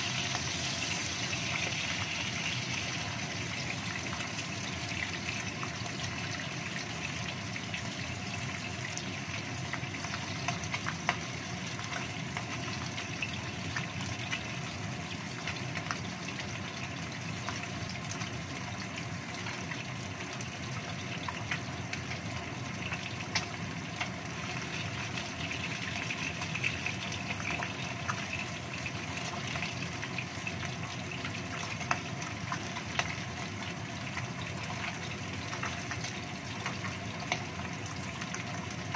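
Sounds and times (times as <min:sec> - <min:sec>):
fish frying in oil: 0:00.0 - 0:38.9.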